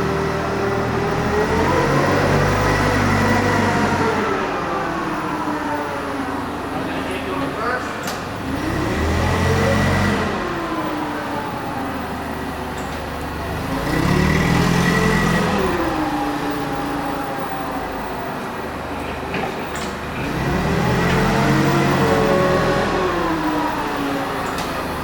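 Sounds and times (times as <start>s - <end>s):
forklift engine revving: 0.0s - 25.0s.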